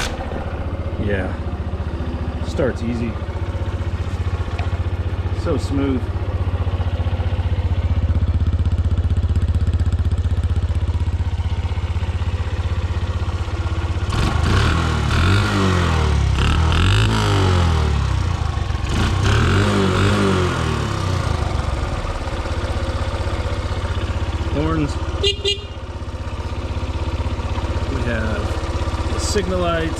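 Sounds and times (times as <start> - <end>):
motorcycle engine idling: 0.0 - 29.9
motorcycle engine revving: 0.0 - 29.9.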